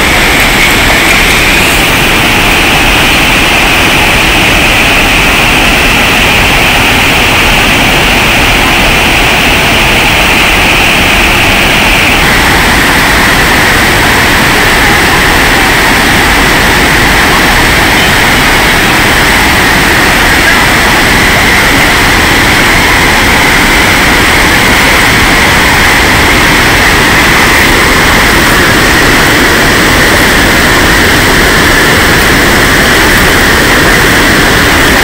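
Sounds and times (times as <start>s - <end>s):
water rushing over a dam: 0.0s - 35.0s.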